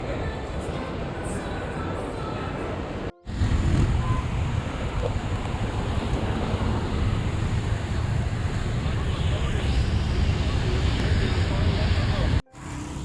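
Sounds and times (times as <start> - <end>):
road traffic rumble: 0.9 - 13.0.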